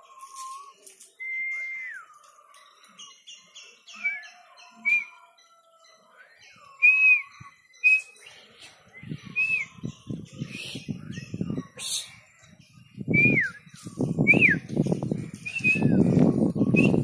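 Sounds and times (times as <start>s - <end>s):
high whistled bird calls: 0.0s - 5.3s, 6.3s - 17.0s.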